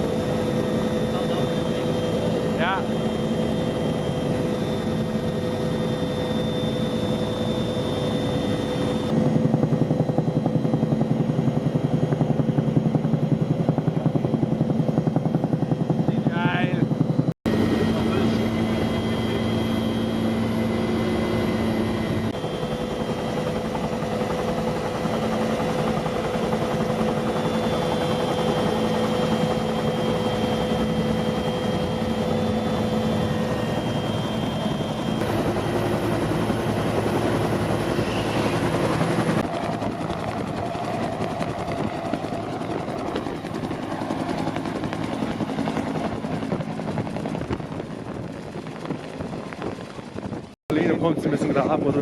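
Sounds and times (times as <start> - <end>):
helicopter rotor and engine: 0.0 - 52.0.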